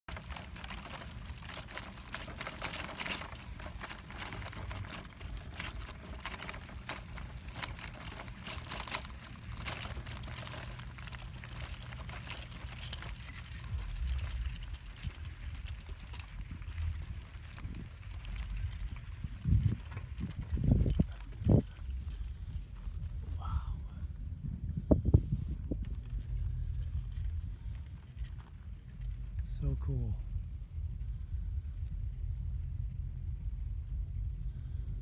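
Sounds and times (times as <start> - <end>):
wind buffeting microphone: 1.2 - 29.4.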